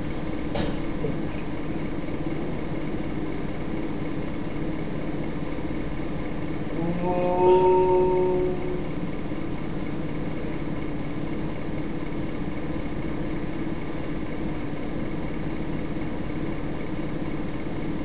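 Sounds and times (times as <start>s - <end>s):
steady low hum with hiss: 0.0s - 18.0s.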